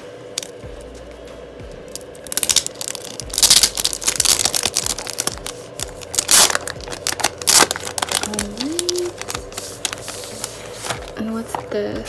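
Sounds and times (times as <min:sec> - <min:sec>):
packaging crinkling and rustling: 0:01.9 - 0:11.9.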